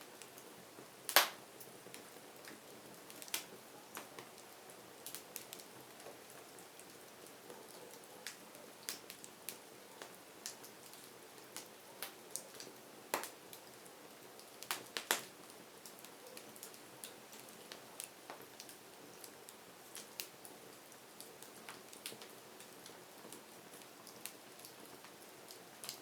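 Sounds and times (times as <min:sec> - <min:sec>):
soft steady hiss: 0:00.0 - 0:26.0
firewood crackling and popping: 0:00.2 - 0:07.4, 0:08.2 - 0:26.0.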